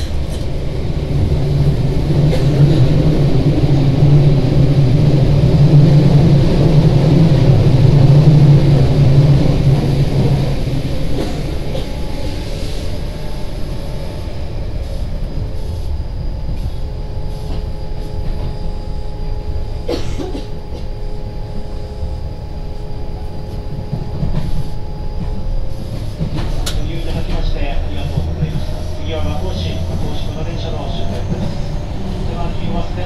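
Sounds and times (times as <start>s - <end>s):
steady hum tones: 0.0s - 33.0s
train wheels rumbling on track: 0.0s - 33.0s.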